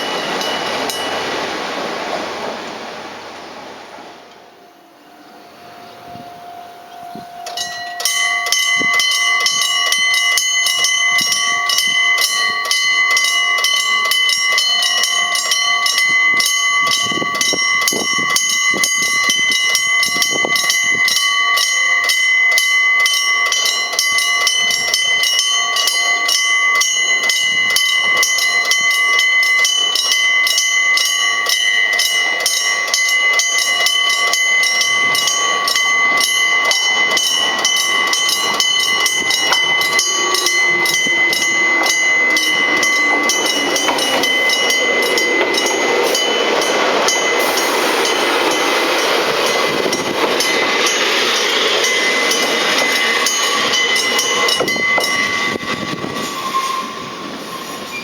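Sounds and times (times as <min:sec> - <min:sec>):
level crossing bell ringing: 0:05.6 - 0:56.2.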